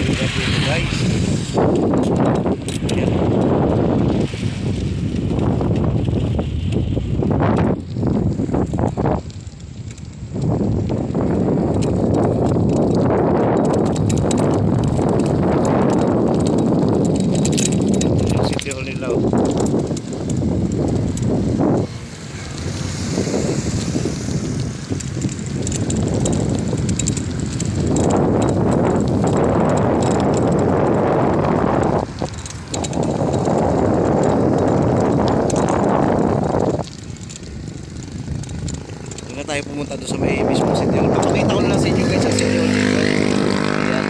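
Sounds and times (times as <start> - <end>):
bike rattles and clicks: 0.0 - 44.0
wind rumble on microphone: 0.0 - 44.0.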